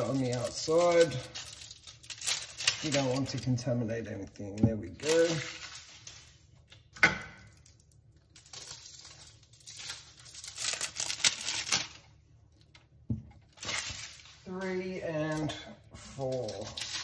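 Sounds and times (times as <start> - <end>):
aluminium foil crinkling and tearing: 0.0 - 12.8, 13.4 - 17.0.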